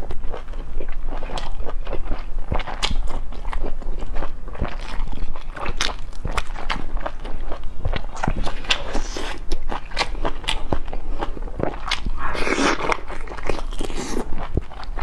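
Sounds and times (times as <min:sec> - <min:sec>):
wet bites and chewing: 0:00.3 - 0:15.0.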